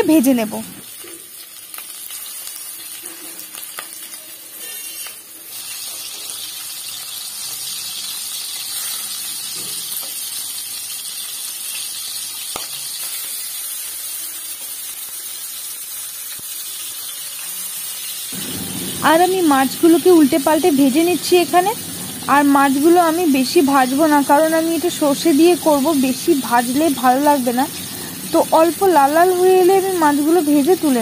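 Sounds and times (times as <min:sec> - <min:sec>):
fish sizzling in oil: 0:00.0 - 0:31.0.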